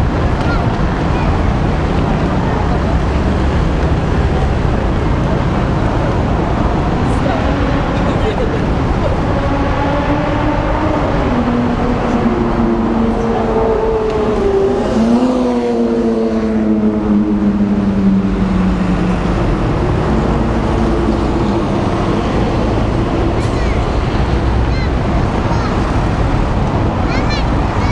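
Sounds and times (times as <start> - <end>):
traffic engines passing: 0.0 - 27.9.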